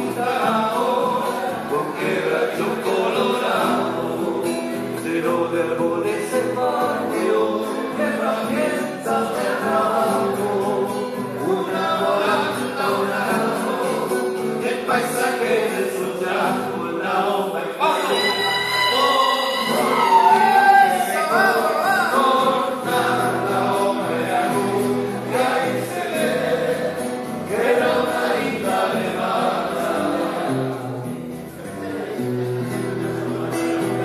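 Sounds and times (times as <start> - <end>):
men singing together: 0.0 - 34.0
strummed acoustic guitar: 0.0 - 34.0.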